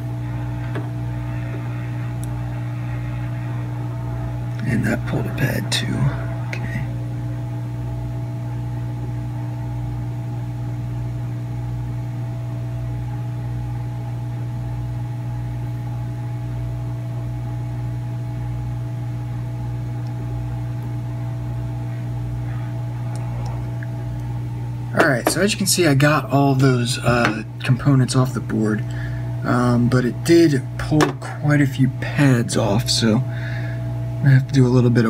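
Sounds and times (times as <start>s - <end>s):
hot air rework station humming: 0.0s - 35.0s.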